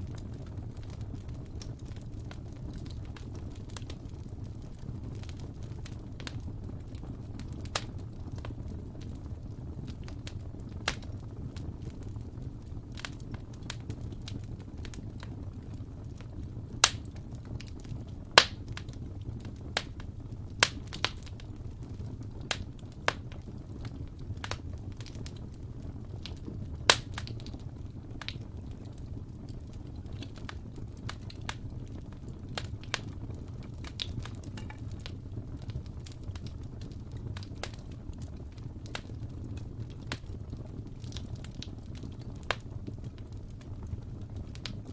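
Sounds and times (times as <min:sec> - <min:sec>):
fire crackling: 0:00.0 - 0:44.9
rumble of fire flames: 0:00.0 - 0:44.9.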